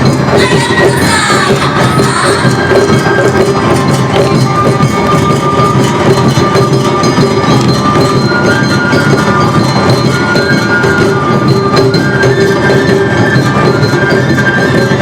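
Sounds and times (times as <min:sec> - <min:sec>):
flute-like melody: 0:00.0 - 0:15.0
taiko drums: 0:00.0 - 0:15.0.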